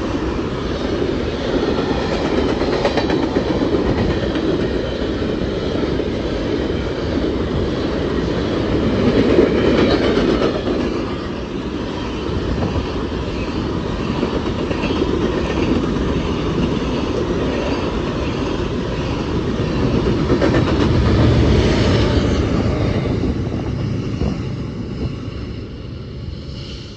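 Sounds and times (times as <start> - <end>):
train wheels clattering on rails: 0.0 - 25.9
deep train rumble: 0.0 - 26.9.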